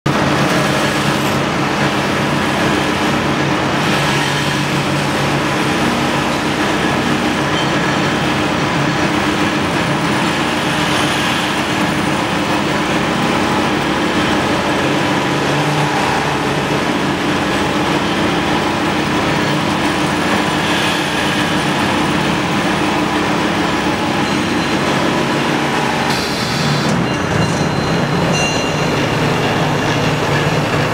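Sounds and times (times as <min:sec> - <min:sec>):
knife grinding machine running: 0:00.1 - 0:30.9.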